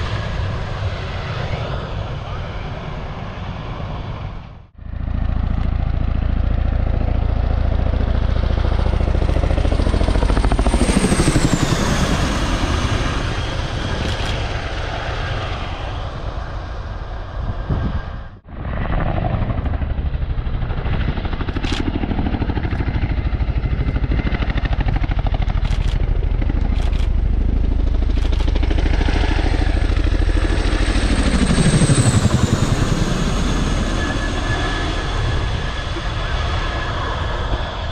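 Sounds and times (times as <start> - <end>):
helicopter engines whining: 0.0 - 37.9
helicopter rotors beating: 0.0 - 37.9.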